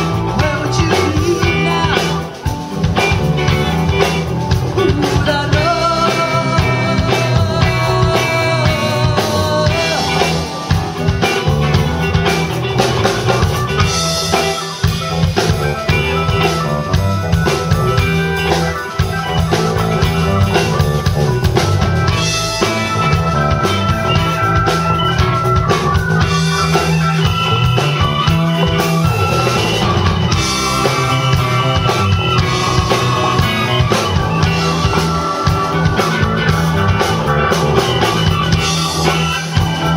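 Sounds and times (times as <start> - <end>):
drum kit beat: 0.0 - 39.9
electric guitar melody: 0.0 - 39.9
keyboard melody: 0.0 - 39.9.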